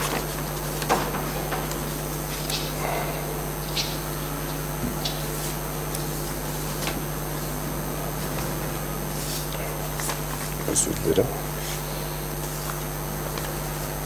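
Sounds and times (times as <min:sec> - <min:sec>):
sound system hum and hiss: 0:00.0 - 0:14.0.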